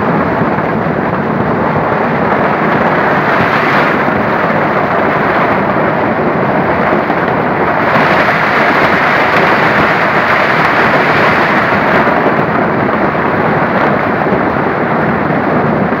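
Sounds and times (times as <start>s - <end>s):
heavy rain and hail: 0.0s - 16.0s
wind storm: 0.0s - 16.0s.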